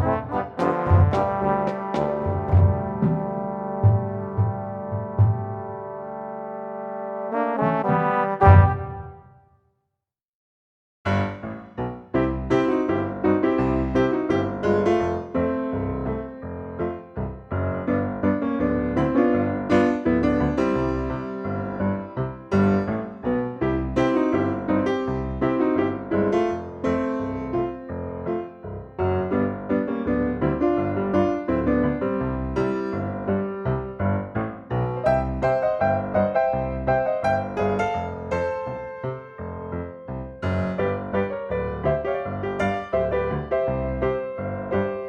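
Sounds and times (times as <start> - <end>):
piano music: 0.0 - 9.4, 11.1 - 45.0.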